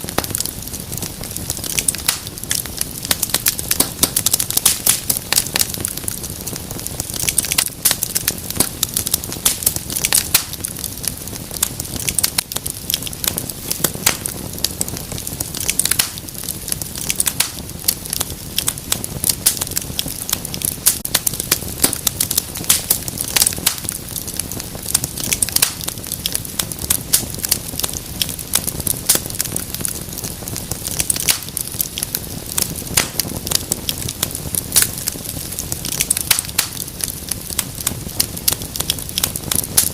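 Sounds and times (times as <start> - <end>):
low hiss of burning: 0.0 - 39.9
wood fire crackling and popping: 0.0 - 39.9.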